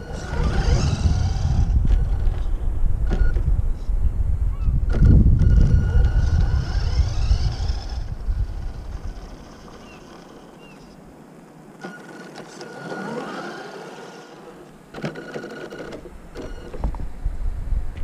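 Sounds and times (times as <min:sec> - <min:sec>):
rc car motor whine: 0:00.0 - 0:03.4, 0:04.8 - 0:11.0, 0:11.8 - 0:16.9
rc car low rumble on asphalt: 0:00.0 - 0:18.0.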